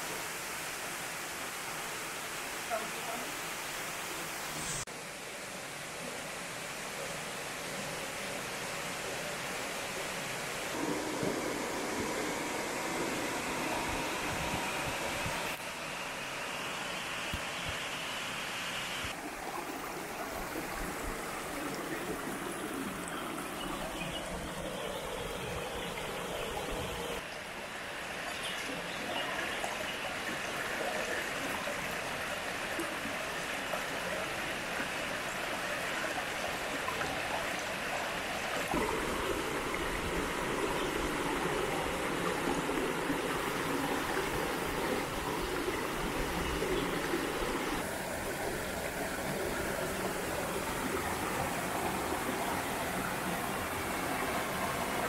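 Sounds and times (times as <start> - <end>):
creek water over rocks: 0.0 - 55.0.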